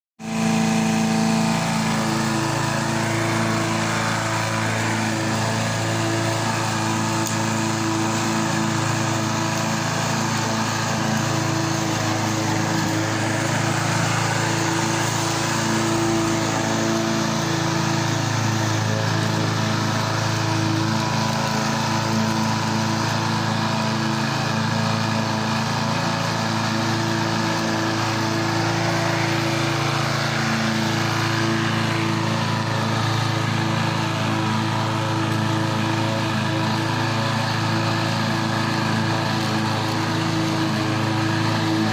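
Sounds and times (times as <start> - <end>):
lawnmower engine running: 0.2 - 41.9.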